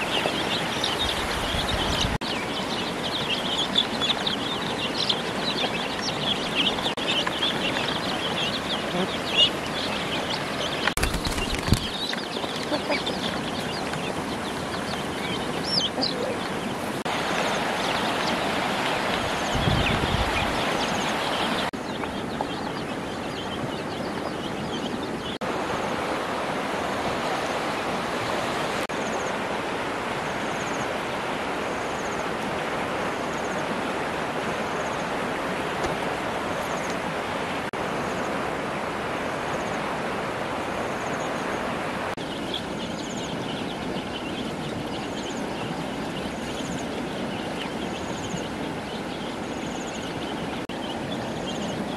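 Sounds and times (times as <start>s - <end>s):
rushing outdoor background noise: 0.0s - 51.9s.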